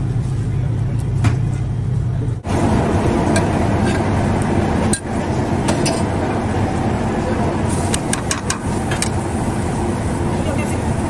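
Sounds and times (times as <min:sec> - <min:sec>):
low hum: 0:00.0 - 0:11.0
rushing kitchen noise: 0:00.0 - 0:11.0.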